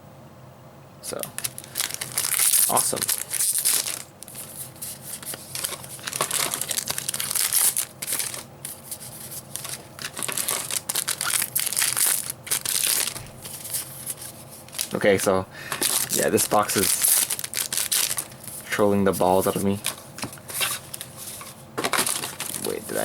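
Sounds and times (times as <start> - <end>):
foil wrappers crinkling and tearing: 1.2 - 23.0.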